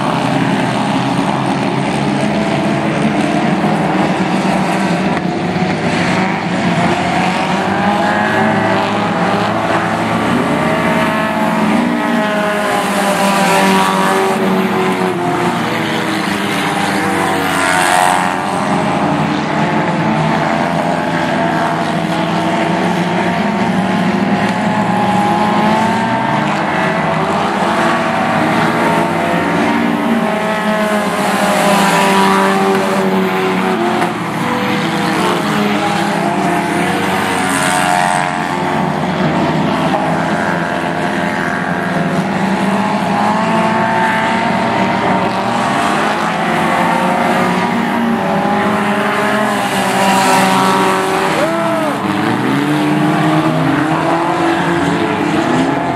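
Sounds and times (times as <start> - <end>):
stock car engines racing: 0.0 - 55.9.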